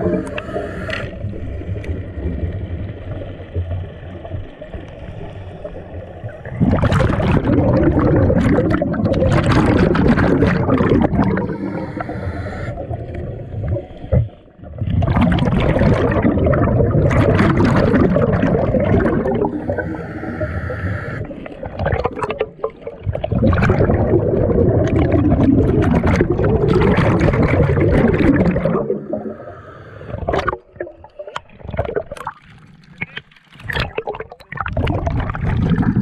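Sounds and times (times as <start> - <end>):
exhaled bubbles rushing underwater: 0.0 - 36.0
low underwater rumbling: 0.0 - 36.0.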